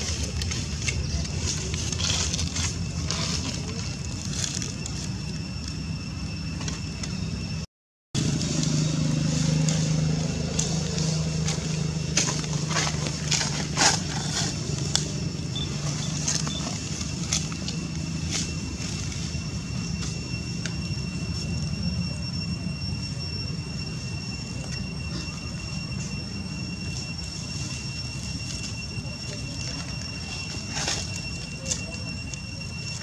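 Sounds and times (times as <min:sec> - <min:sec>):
dry leaves crackling: 0:00.0 - 0:06.8, 0:08.2 - 0:22.4, 0:23.9 - 0:33.0
low mechanical hum: 0:00.0 - 0:33.0.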